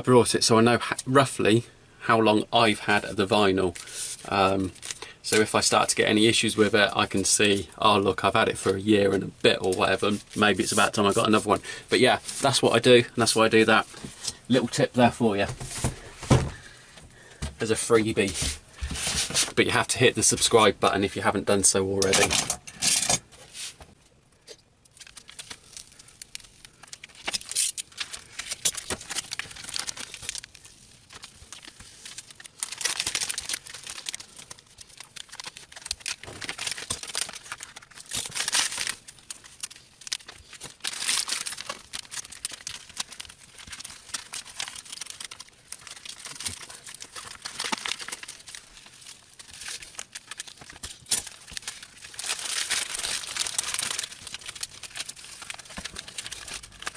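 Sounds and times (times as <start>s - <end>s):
vinyl sheet crinkling: 0.0s - 56.9s.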